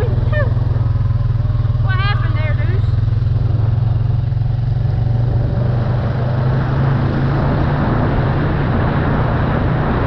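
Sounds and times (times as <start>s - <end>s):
off-road vehicle engine running: 0.0s - 10.0s.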